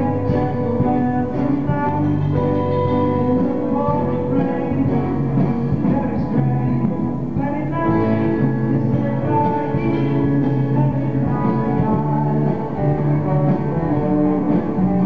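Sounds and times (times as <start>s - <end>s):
live instrumental music: 0.0s - 15.0s.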